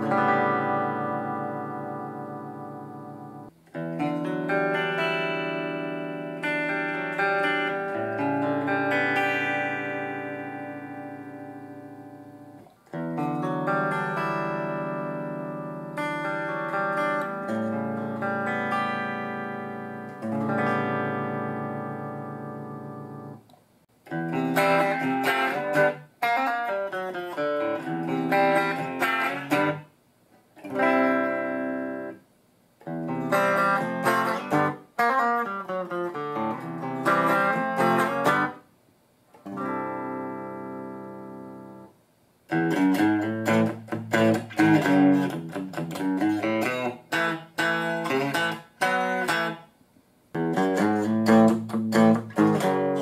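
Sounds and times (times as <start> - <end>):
electric guitar through amplifier: 0.0 - 29.9, 30.6 - 38.7, 39.3 - 53.0.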